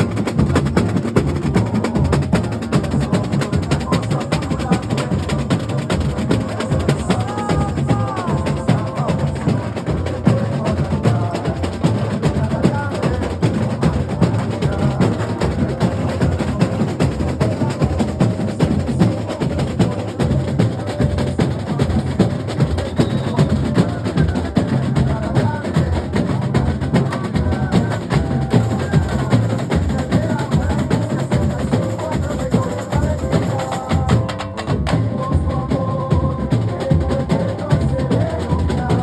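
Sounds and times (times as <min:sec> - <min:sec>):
percussion section drumming: 0:00.0 - 0:39.0.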